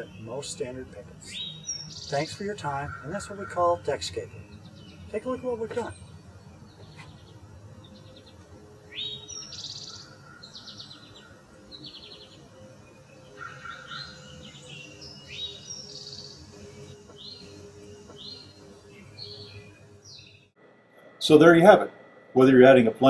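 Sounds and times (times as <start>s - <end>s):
songbirds chirping and trilling: 0.0s - 20.6s.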